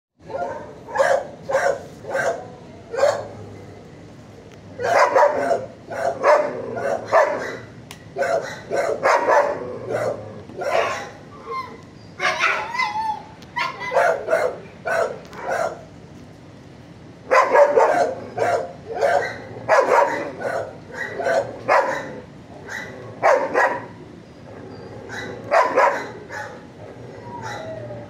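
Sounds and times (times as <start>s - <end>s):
dogs yipping: 0.2s - 2.4s, 4.8s - 15.8s, 17.3s - 28.0s
dogs barking: 0.2s - 3.5s, 4.7s - 15.9s, 17.3s - 28.0s.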